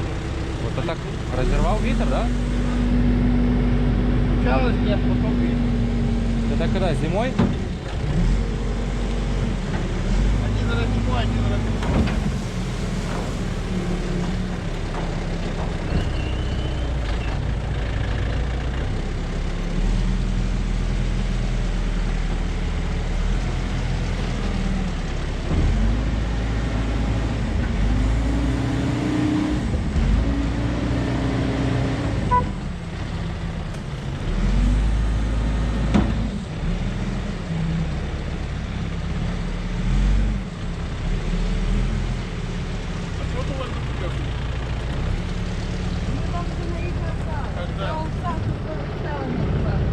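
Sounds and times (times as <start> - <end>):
continuous low rumble: 0.0 - 49.9
heavy vehicle engine running: 0.0 - 49.9.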